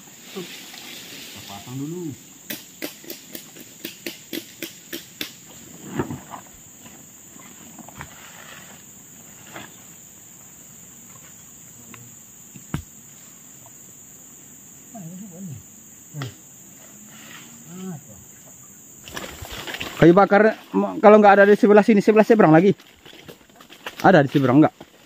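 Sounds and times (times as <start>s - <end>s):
forest insects droning: 0.0s - 25.0s.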